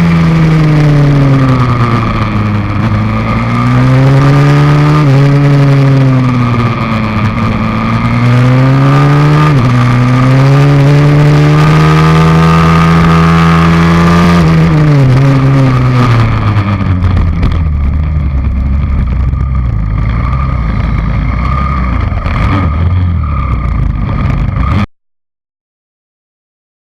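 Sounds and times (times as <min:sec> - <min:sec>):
small motorcycle engine revving: 0:00.0 - 0:17.6, 0:18.2 - 0:24.9.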